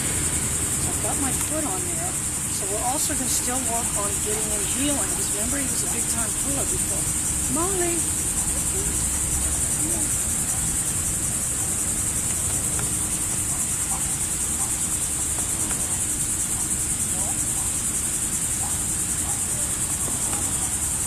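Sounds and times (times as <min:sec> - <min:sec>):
insects trilling buzz: 0:00.0 - 0:21.0
low background rumble: 0:00.0 - 0:21.0.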